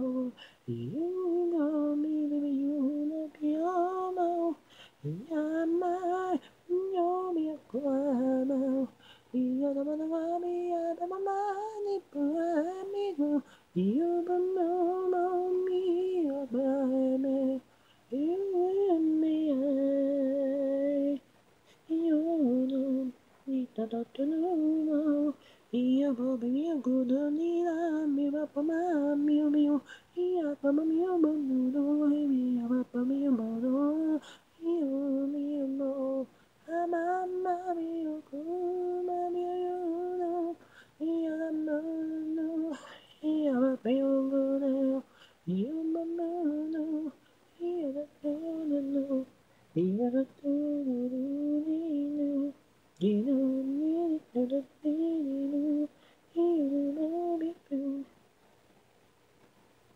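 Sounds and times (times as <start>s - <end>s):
person singing a cappella: 0.0s - 58.2s.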